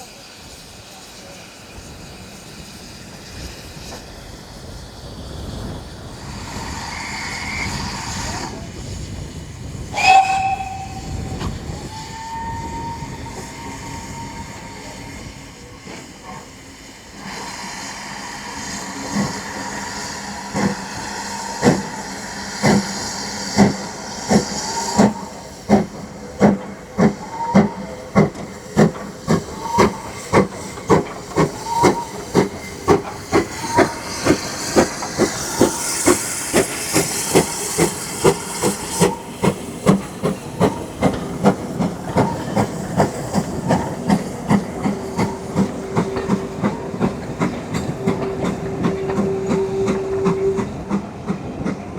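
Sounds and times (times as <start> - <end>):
steam hissing: 0.0 - 51.9
steam locomotive chuffing: 0.0 - 51.9.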